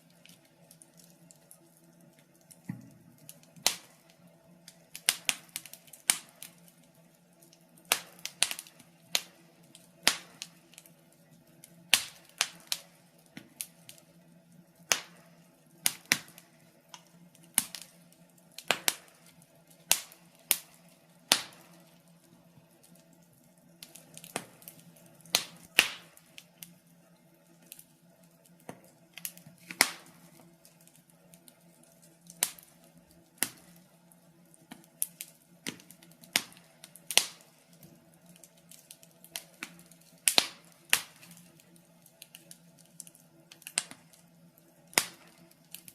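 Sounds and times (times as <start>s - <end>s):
faint steady hum: 0.0s - 45.9s
wood fire crackling: 0.0s - 45.9s.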